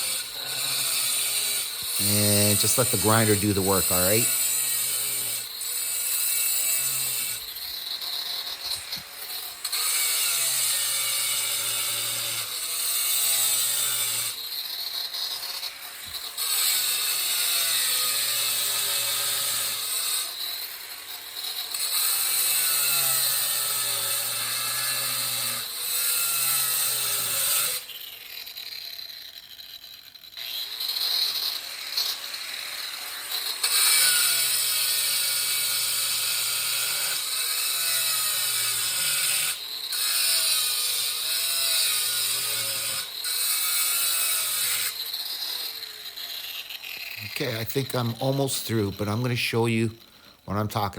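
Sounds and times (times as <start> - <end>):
angle grinder cutting stone tile: 0.0 - 50.9.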